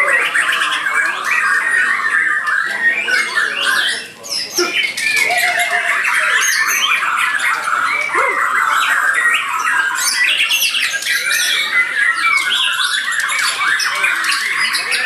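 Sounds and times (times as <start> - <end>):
songbirds chorus of whistles: 0.0 - 15.0.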